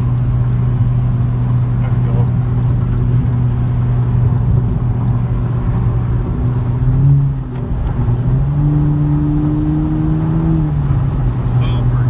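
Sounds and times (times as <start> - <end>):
car engine droning: 0.0 - 12.0
tyre and road noise: 0.0 - 12.0.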